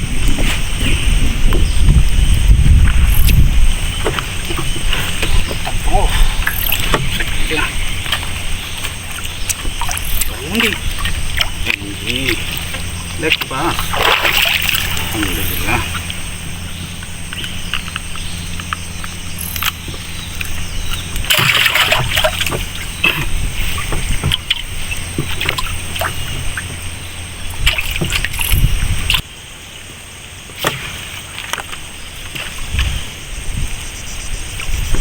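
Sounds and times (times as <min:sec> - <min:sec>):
small boat engine running: 0:00.0 - 0:34.5
water splashing and sloshing: 0:00.0 - 0:35.0.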